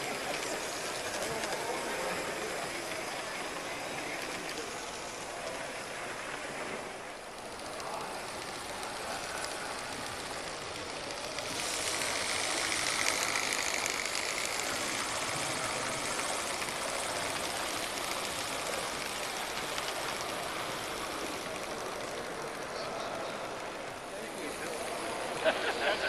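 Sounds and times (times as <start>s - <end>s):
steam hissing: 0.0s - 26.0s.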